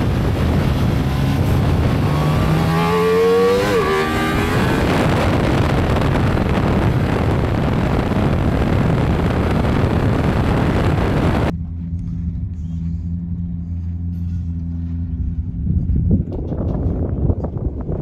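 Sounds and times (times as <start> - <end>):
wind rush on microphone: 0.0 - 12.5, 15.1 - 18.0
motorcycle engine accelerating hard: 0.0 - 18.0.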